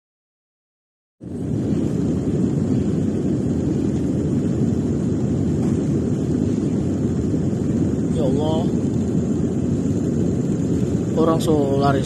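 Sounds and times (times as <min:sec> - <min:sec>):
volcano rumbling: 0:01.2 - 0:12.0.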